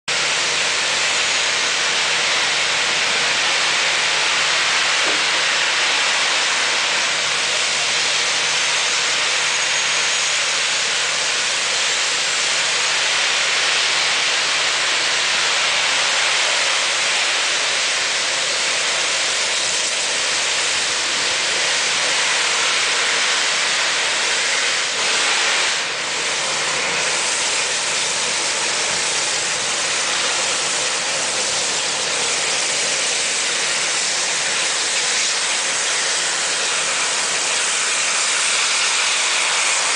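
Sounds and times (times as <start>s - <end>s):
steam hissing: 0.1s - 39.9s.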